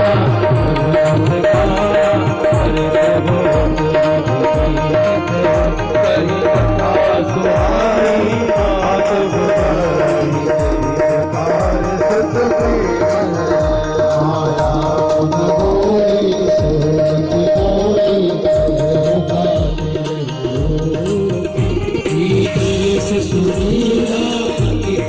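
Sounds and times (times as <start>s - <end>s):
hand drum beat: 0.0s - 25.0s
person singing: 0.0s - 25.0s.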